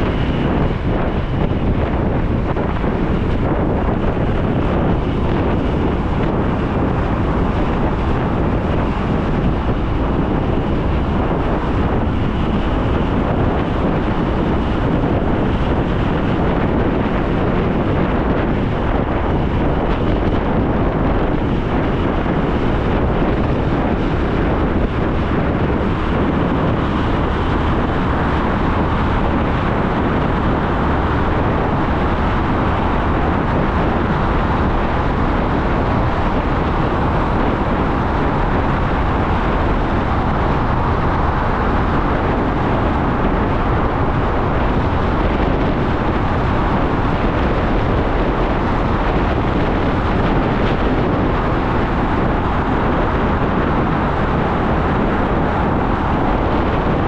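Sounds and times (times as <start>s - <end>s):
motorcycle riding with wind noise: 0.0s - 57.0s.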